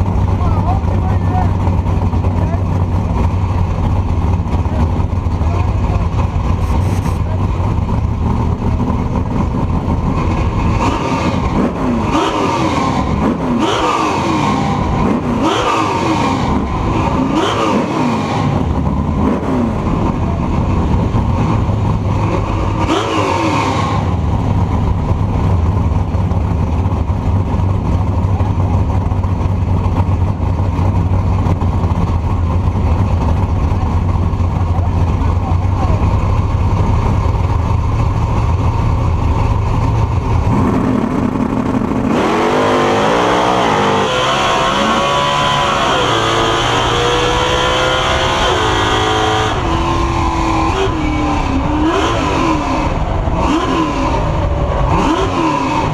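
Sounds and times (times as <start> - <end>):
car engine at full throttle: 0.0 - 55.9
road and wind rumble: 0.0 - 55.9.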